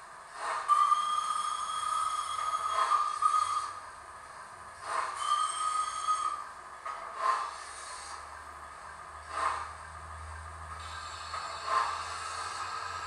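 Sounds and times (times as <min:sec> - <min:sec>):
model steam locomotive chuffs: 0:00.0 - 0:13.0.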